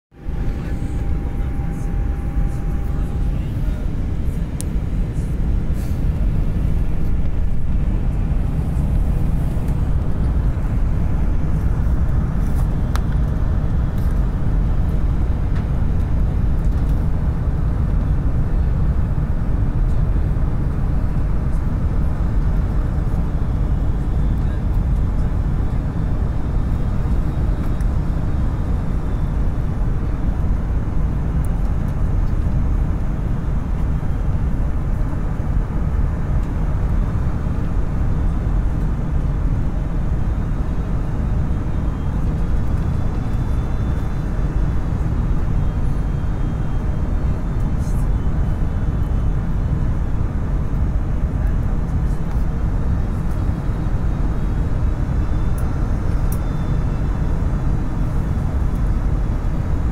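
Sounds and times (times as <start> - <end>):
faint high whine: 0.1 - 15.6, 20.6 - 50.3, 52.3 - 59.9
airliner cabin engine roar: 0.1 - 59.9.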